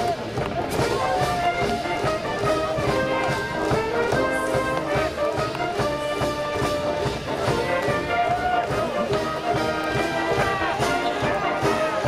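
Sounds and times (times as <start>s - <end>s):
brass band playing: 0.0s - 12.0s.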